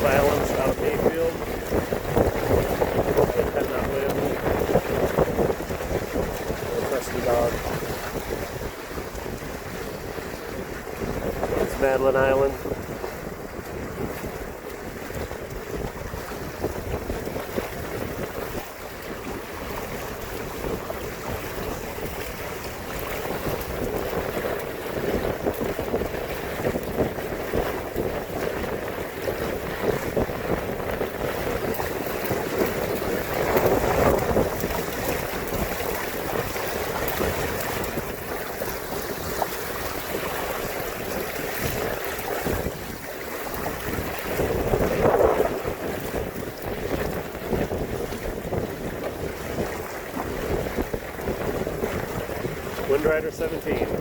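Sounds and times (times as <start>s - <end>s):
water washing along hulls: 0.0s - 54.0s
wind buffeting microphone: 0.0s - 54.0s.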